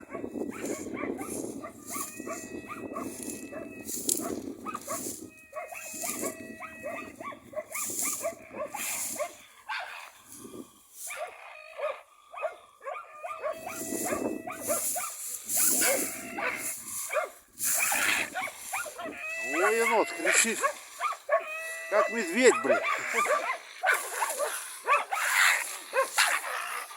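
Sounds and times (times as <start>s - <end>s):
dogs barking: 0.0s - 26.9s.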